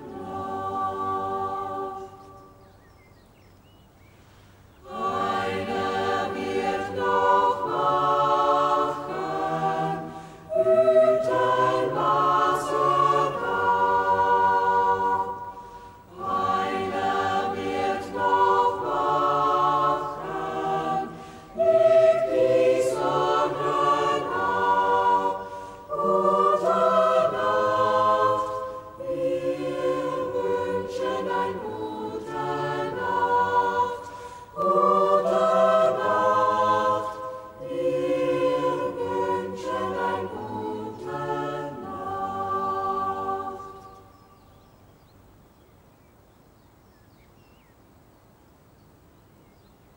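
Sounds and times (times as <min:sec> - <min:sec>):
choir singing in harmony: 0:00.0 - 0:02.9, 0:04.8 - 0:44.8.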